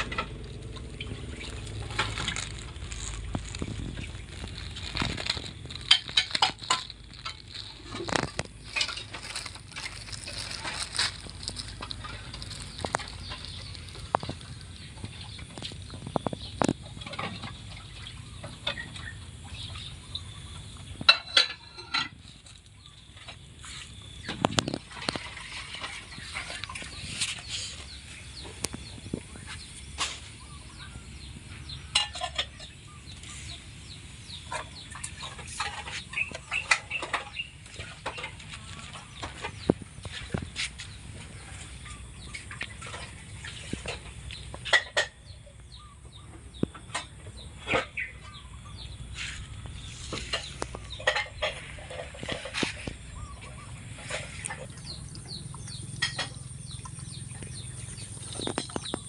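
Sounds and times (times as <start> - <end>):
low background hum: 0.0 - 59.0.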